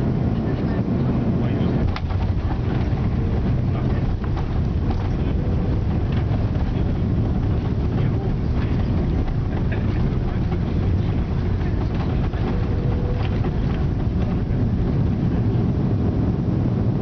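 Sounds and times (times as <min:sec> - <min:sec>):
airliner engines and wheels rumbling: 0:00.0 - 0:17.0.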